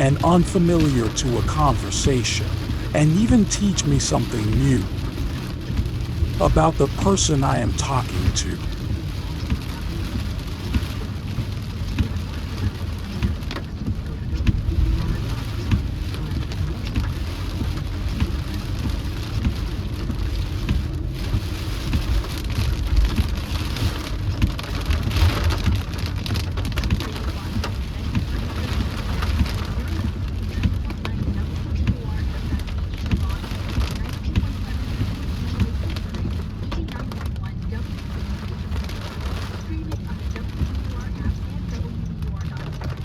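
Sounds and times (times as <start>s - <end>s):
low road rumble: 0.0s - 43.0s
rain hitting a car: 0.0s - 43.0s.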